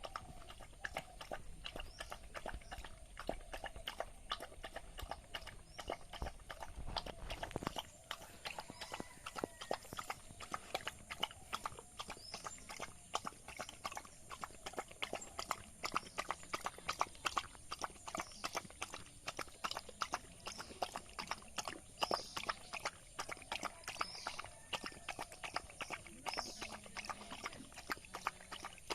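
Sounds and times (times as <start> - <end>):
dog chewing and smacking: 0.0 - 28.9.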